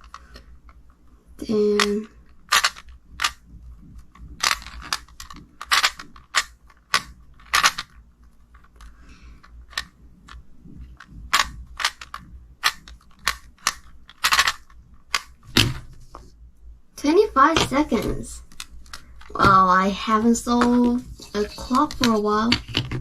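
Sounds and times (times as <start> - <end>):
puzzle pins and dials clicking: 1.4 - 15.8, 17.0 - 23.0.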